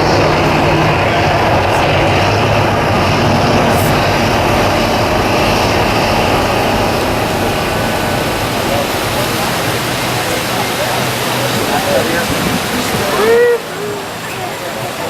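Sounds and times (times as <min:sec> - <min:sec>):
loud rumbling roar: 0:00.0 - 0:15.0
low hum: 0:00.0 - 0:15.0.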